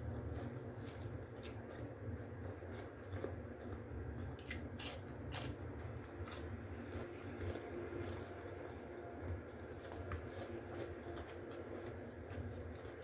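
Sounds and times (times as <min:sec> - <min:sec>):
low steady hum: 0:00.0 - 0:13.0
person chewing food: 0:00.0 - 0:13.0.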